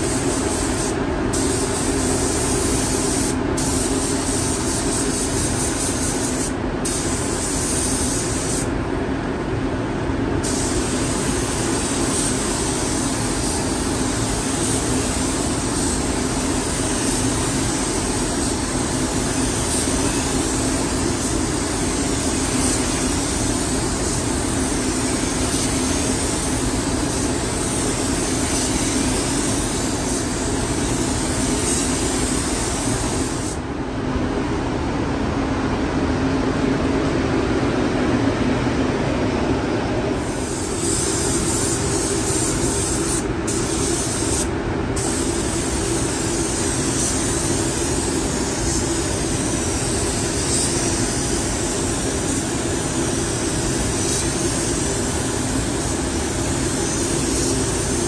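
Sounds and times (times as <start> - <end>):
spray gun hissing: 0.0 - 8.7, 10.4 - 33.6, 40.2 - 58.0.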